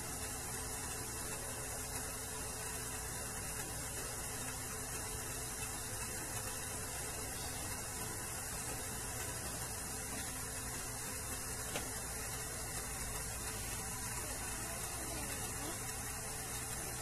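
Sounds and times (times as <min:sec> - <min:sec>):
low mains hum: 0:00.0 - 0:17.0
steady hiss: 0:00.0 - 0:17.0.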